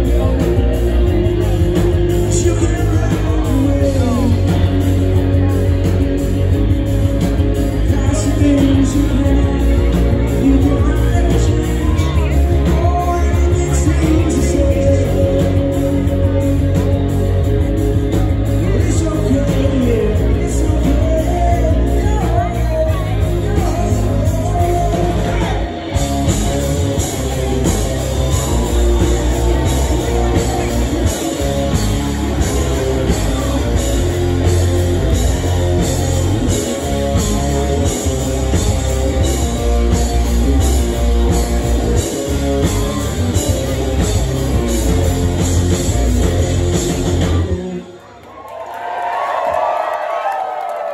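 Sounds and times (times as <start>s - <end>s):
person singing: 0.0s - 6.1s, 7.7s - 17.2s, 18.2s - 45.0s
steady drum beat: 0.0s - 47.7s
electric guitar: 0.0s - 48.3s
live rock band playing: 0.0s - 48.4s.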